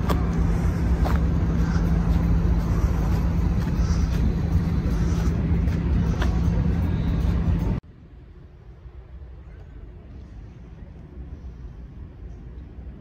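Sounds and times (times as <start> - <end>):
ship diesel machinery humming: 0.0 - 13.0.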